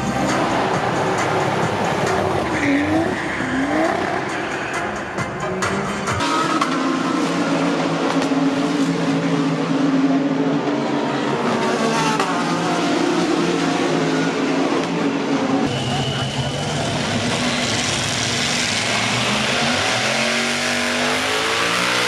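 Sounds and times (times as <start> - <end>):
race car engine running: 0.0 - 22.0.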